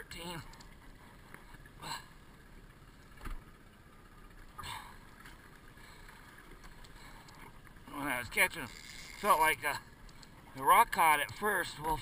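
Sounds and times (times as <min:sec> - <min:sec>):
waves lapping against metal hull: 0:00.0 - 0:12.0.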